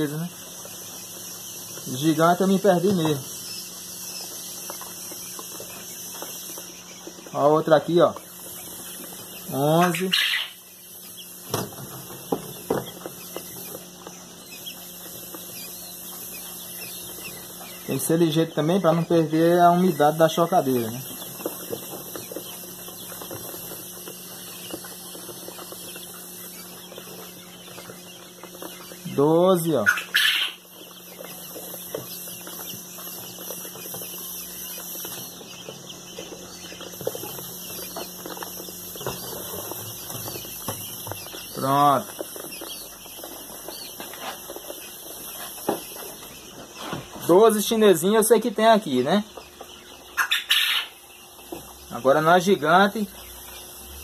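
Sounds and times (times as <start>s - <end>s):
chicks peeping: 0.0s - 54.0s
steady low hum: 0.0s - 54.0s.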